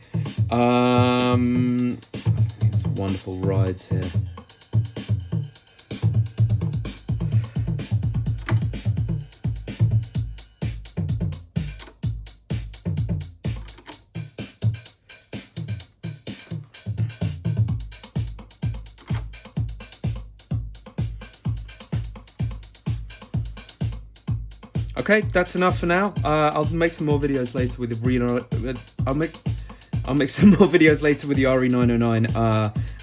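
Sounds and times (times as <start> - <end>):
kick drum: 0.0 - 14.8, 15.4 - 33.0
ride cymbal and hi-hats: 0.0 - 33.0.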